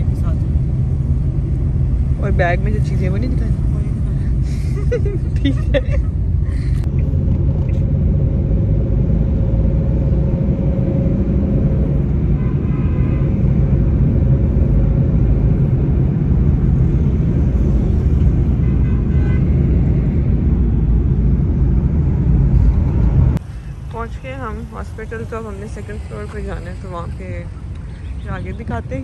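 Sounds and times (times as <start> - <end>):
car interior road rumble: 0.0 - 29.0.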